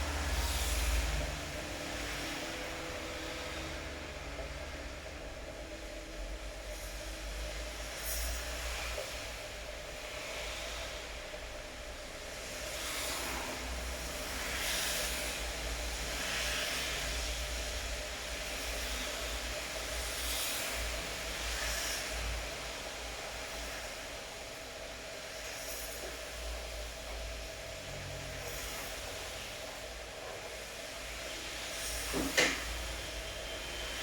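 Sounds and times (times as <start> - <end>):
rain hiss: 0.0 - 34.0.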